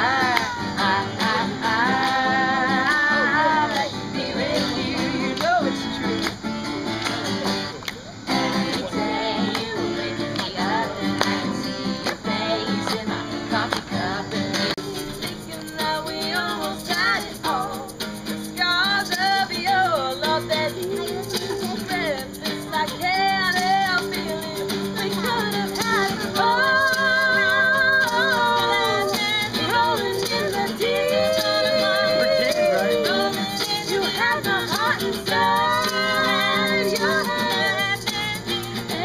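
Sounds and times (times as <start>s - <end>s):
group of people singing: 0.0s - 7.6s, 8.2s - 39.0s
acoustic guitars strumming: 0.0s - 39.0s.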